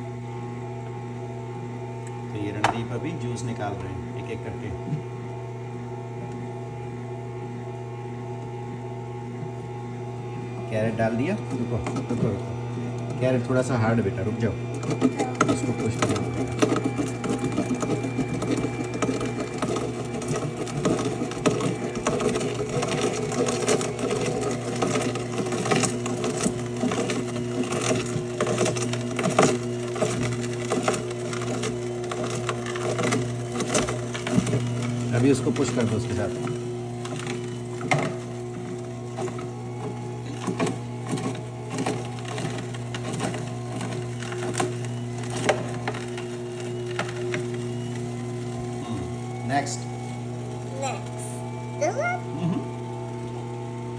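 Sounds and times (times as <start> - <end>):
juicer motor humming: 0.0 - 53.9.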